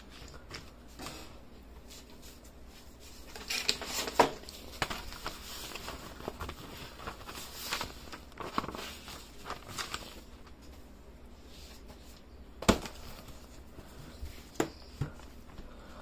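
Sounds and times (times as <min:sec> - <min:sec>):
rustling: 0:00.1 - 0:15.4.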